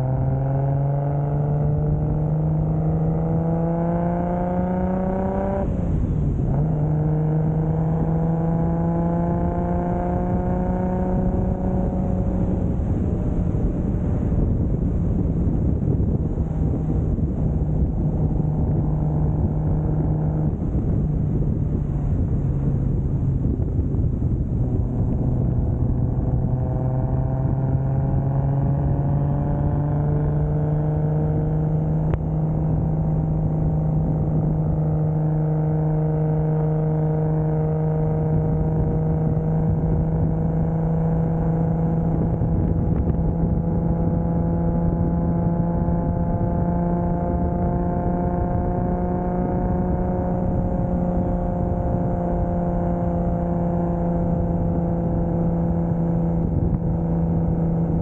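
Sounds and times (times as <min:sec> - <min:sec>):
car engine cruising: 0:00.0 - 0:58.0.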